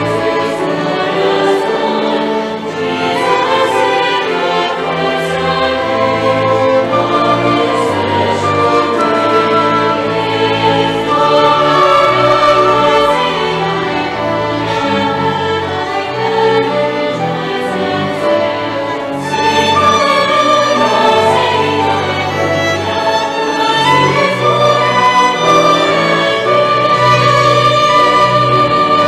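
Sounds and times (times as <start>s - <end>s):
church choir singing: 0.0s - 29.0s
violins: 0.0s - 29.0s.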